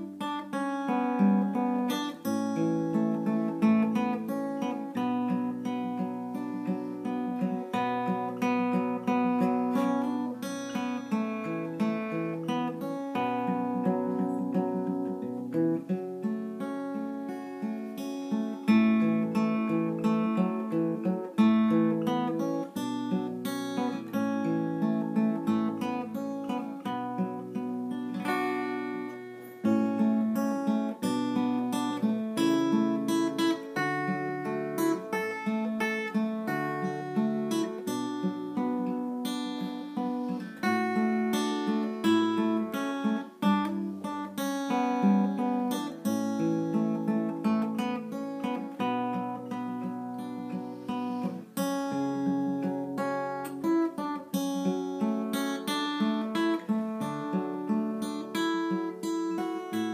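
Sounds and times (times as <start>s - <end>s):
fingerstyle acoustic guitar: 0.0s - 59.9s.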